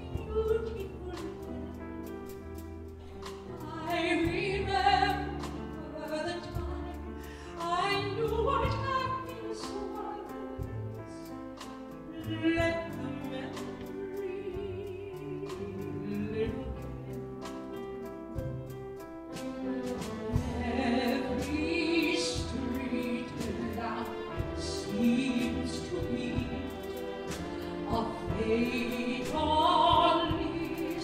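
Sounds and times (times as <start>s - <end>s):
soprano singing ballad: 0.0s - 17.8s, 19.3s - 31.0s
grand piano: 0.0s - 31.0s
orchestra strings: 0.0s - 31.0s.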